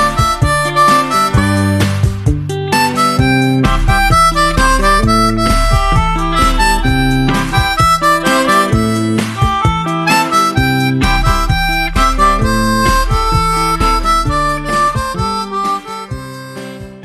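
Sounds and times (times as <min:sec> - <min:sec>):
background music with pitched notes: 0:00.0 - 0:17.0.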